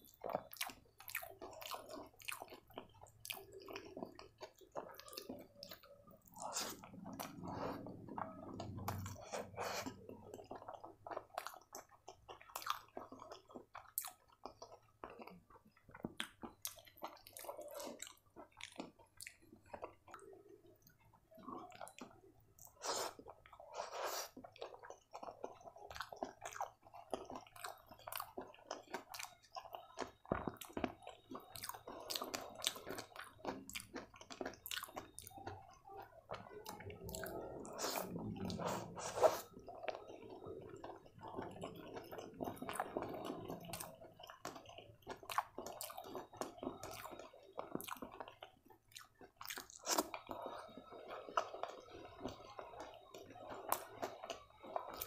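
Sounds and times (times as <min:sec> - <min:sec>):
wet squishy chewing: 0:00.0 - 0:55.0.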